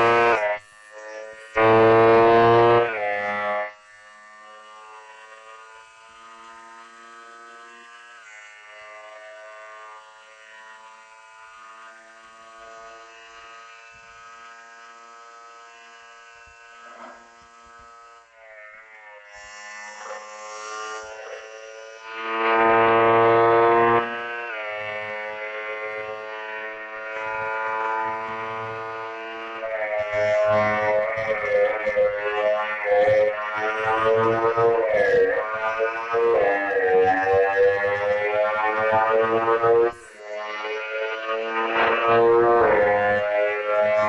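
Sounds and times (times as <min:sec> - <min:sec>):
motorcycle engine buzzing: 0:00.0 - 0:44.0.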